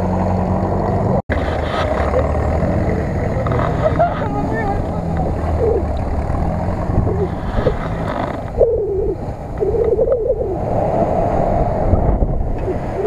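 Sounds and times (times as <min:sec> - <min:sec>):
truck engine revving in mud: 0:00.0 - 0:13.0
wavering whine: 0:01.3 - 0:13.0.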